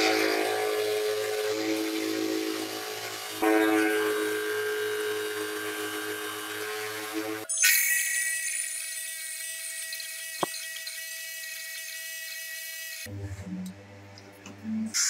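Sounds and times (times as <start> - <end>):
bench grinder motor whine: 0.0 - 13.1
wire wheel brushing metal: 0.0 - 13.1.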